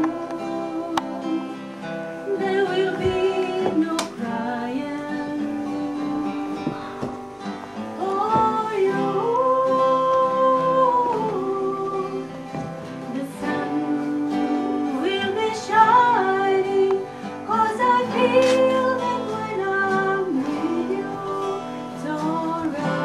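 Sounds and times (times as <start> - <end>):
woman singing a ballad: 0.0 - 7.2, 7.8 - 23.0
acoustic guitar: 0.0 - 23.0.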